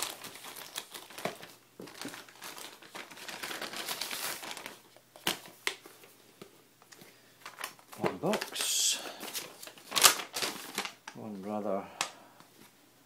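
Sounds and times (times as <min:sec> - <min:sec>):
packaging crinkling and rustling: 0:00.0 - 0:11.4.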